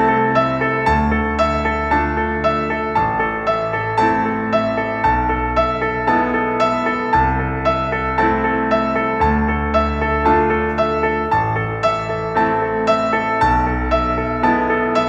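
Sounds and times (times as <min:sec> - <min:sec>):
gentle piano instrumental: 0:00.0 - 0:15.0.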